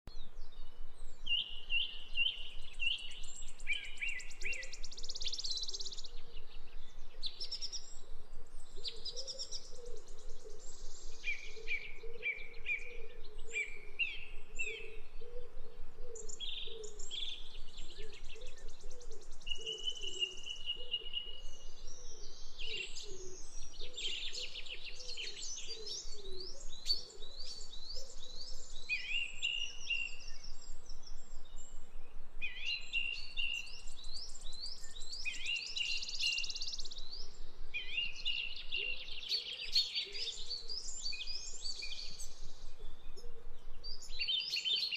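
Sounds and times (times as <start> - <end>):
birds chirping and singing: 0.1 - 44.9.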